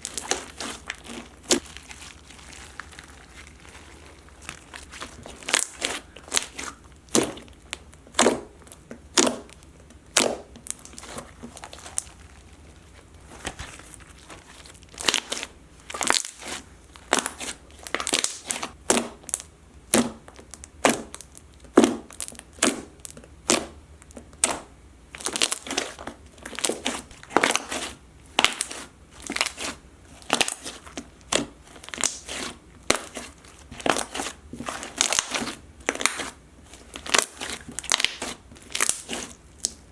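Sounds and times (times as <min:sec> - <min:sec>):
slime squelching and crackling: 0:00.0 - 0:39.9.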